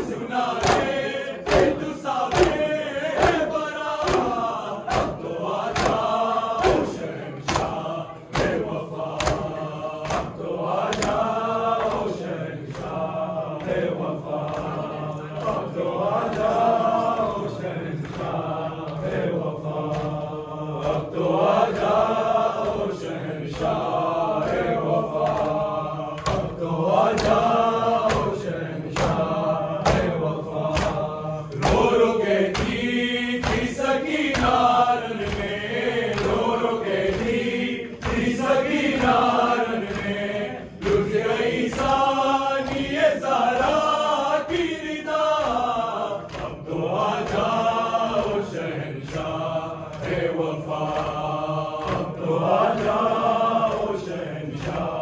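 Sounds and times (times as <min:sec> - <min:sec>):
men chanting a lament: 0:00.0 - 0:55.0.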